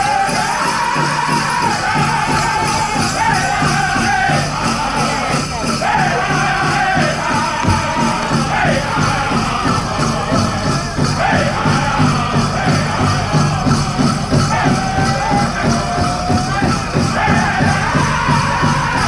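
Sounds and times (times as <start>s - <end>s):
big drum beat: 0.0s - 19.0s
group singing: 0.0s - 19.0s
jingling bells: 0.0s - 19.0s.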